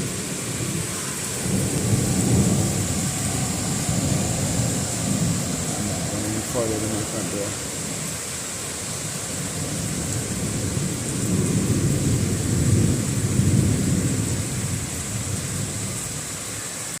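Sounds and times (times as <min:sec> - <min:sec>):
thunder rumbling: 0:00.0 - 0:08.0, 0:09.1 - 0:16.0
heavy rain hissing: 0:00.0 - 0:17.0.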